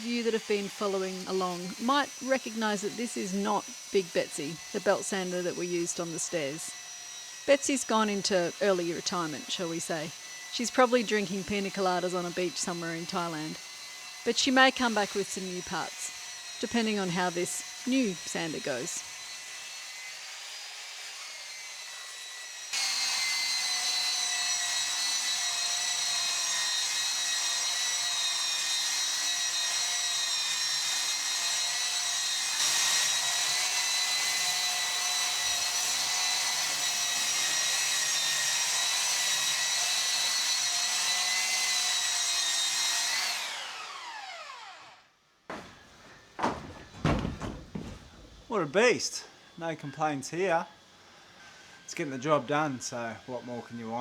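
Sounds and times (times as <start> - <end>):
power sander whining: 0.0 - 54.0.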